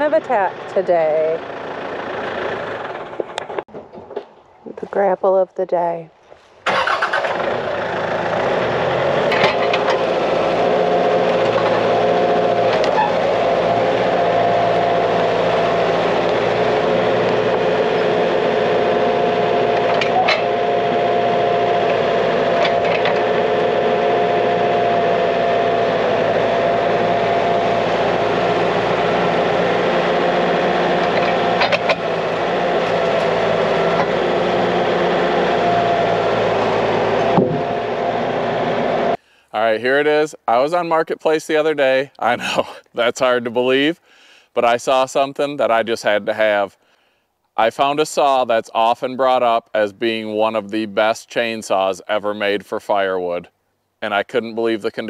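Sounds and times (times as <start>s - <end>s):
tractor diesel engine running: 0.0s - 3.8s, 6.6s - 46.7s, 47.6s - 53.4s.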